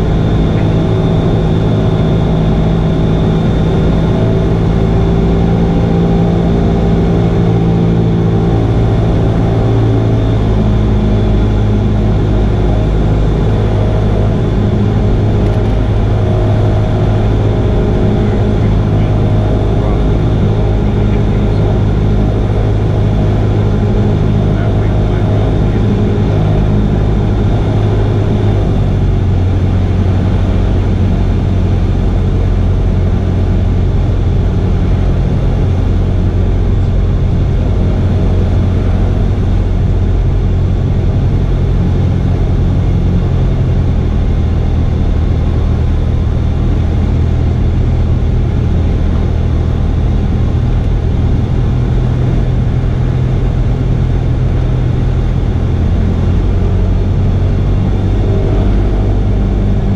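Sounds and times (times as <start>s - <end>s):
plane engine and propeller droning: 0.0s - 59.9s.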